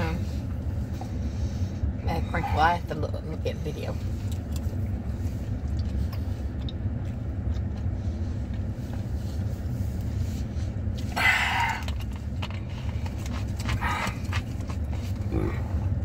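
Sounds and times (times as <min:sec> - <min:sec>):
engine idling rumble: 0:00.0 - 0:16.0.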